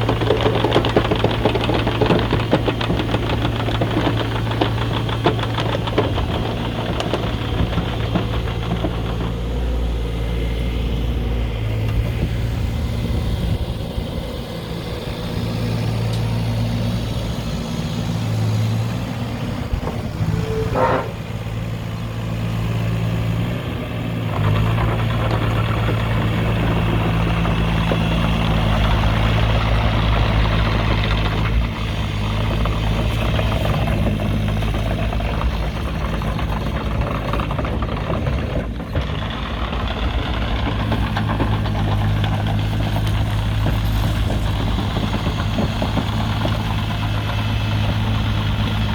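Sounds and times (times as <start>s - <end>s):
diesel excavator engine running: 0.0s - 48.9s.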